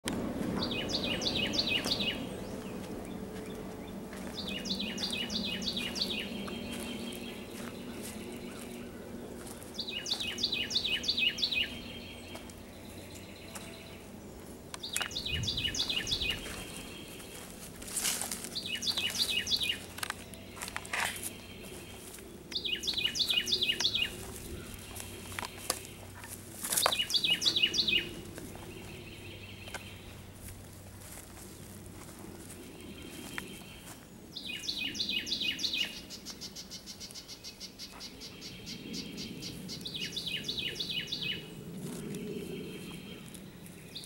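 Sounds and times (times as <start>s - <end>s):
low steady hum: 0.1s - 44.0s
songbird singing: 0.1s - 44.0s.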